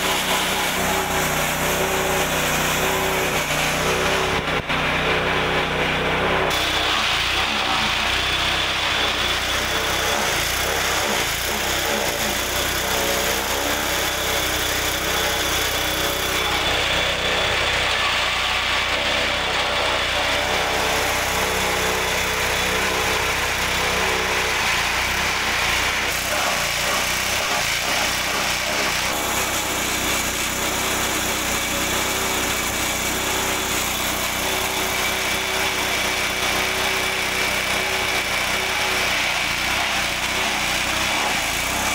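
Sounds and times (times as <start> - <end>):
forage chopper cutting grass: 0.0 - 41.9
small petrol engine running: 0.0 - 41.9.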